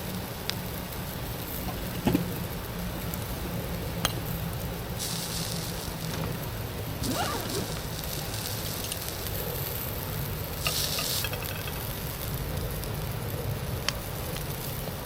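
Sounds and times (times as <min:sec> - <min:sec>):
campfire crackling and popping: 0:00.0 - 0:15.0
high hiss: 0:00.0 - 0:15.0.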